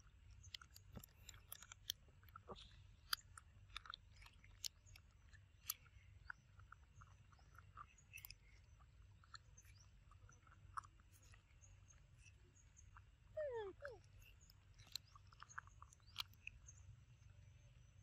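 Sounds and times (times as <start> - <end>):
monkey chewing wet clicks: 0.0 - 18.0.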